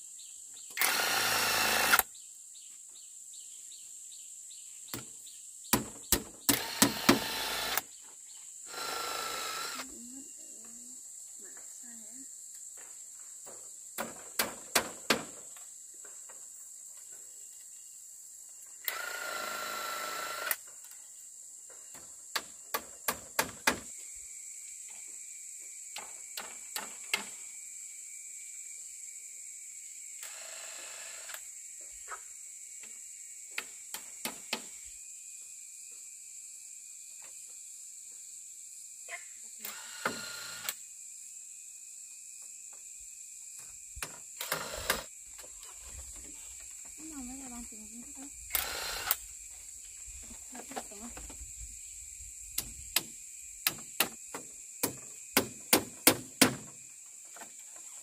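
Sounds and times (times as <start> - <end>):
high-pitched insect drone: 0.0 - 2.3, 6.5 - 58.0.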